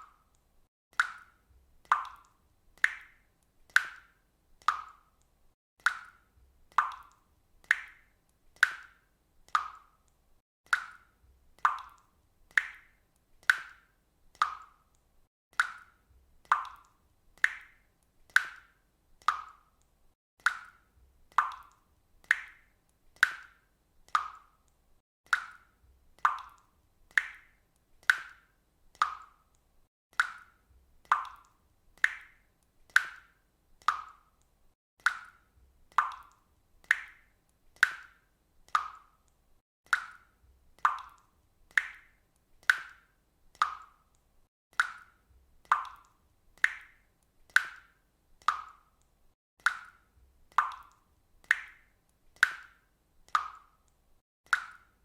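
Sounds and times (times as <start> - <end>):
water dripping into water: 0.0 - 55.0.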